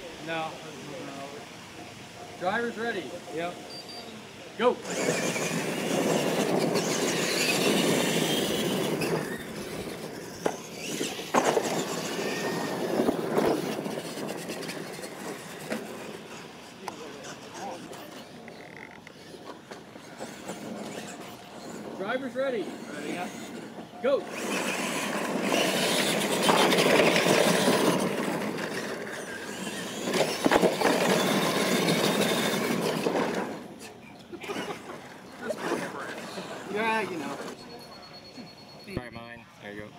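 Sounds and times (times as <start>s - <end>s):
tyres churning dirt: 0.0s - 37.8s
toy truck motors whining: 2.2s - 39.1s.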